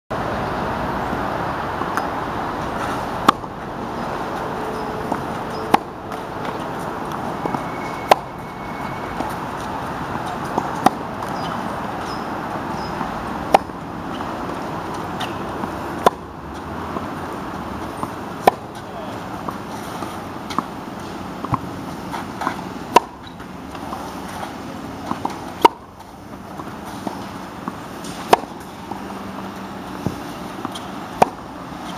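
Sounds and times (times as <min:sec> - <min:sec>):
tennis racket hitting ball: 0:02.7 - 0:08.4, 0:09.2 - 0:31.9.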